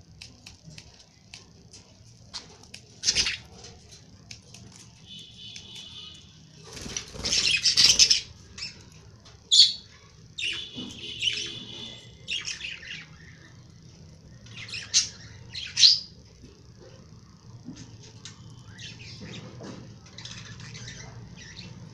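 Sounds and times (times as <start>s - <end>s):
lovebirds chirping and squawking: 1.7s - 4.0s, 4.7s - 16.7s, 17.7s - 21.9s.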